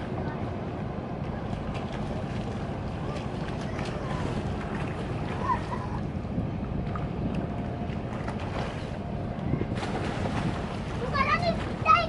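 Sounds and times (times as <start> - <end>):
boat engine rumbling: 0.0 - 12.0
wind buffeting microphone: 0.0 - 12.0.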